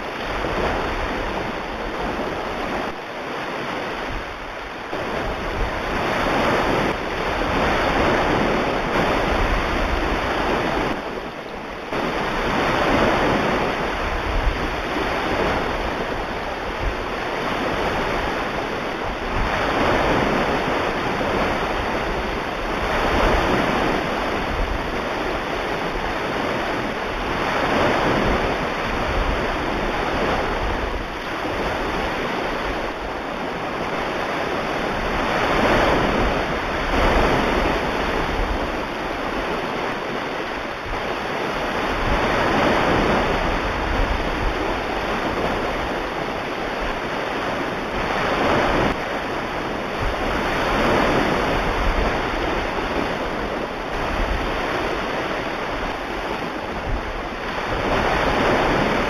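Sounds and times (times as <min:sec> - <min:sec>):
ocean waves washing on shore: 0:00.0 - 0:59.0.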